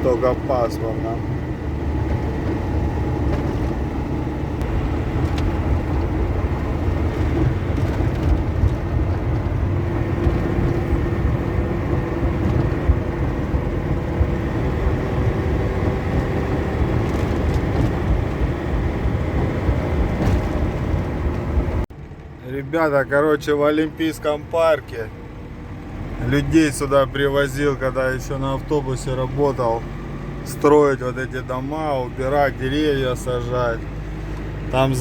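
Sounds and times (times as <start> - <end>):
diesel truck engine hum: 0.0 - 35.0
road and tyre noise: 0.0 - 35.0.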